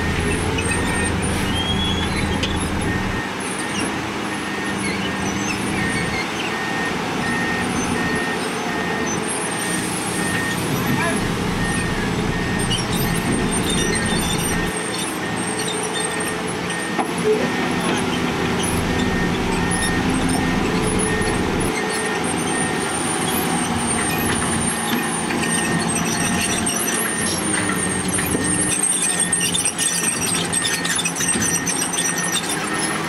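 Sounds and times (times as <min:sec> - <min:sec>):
high metallic squeal: 0:00.0 - 0:03.9, 0:07.8 - 0:33.0
heavy diesel engine under load: 0:00.0 - 0:33.0
reversing alarm beeping: 0:00.0 - 0:33.0.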